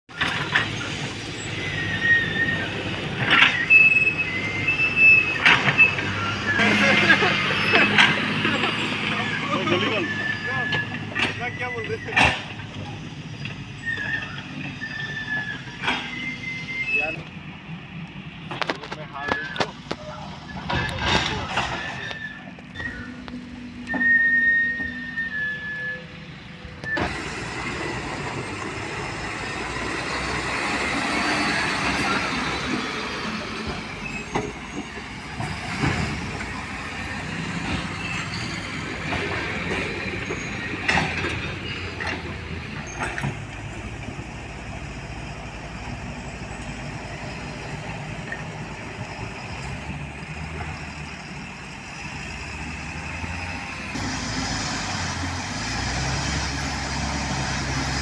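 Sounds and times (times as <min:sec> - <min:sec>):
vehicle noise: 0:00.0 - 0:58.0.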